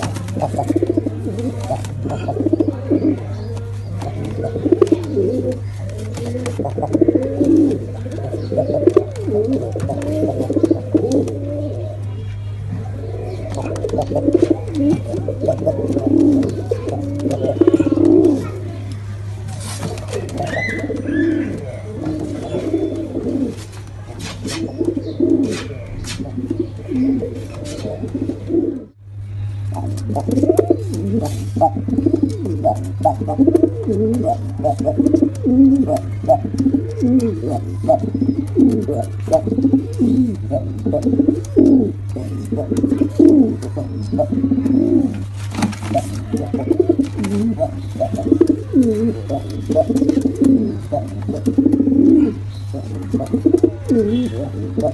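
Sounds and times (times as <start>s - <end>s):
pigeons cooing: 0.0s - 54.9s
steady low hum: 0.0s - 54.9s.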